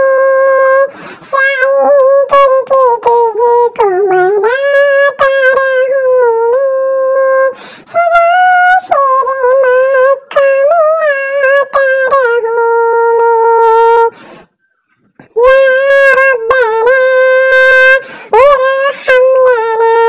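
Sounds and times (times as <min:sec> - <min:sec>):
person singing unaccompanied: 0:00.0 - 0:14.3, 0:15.2 - 0:20.0.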